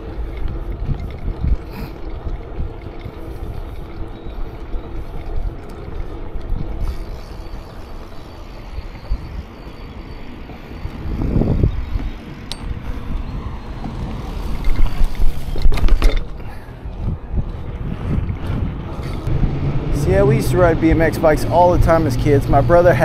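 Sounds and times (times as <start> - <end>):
bike rattling: 0.0 - 23.0
bike tyre rumble: 0.0 - 23.0.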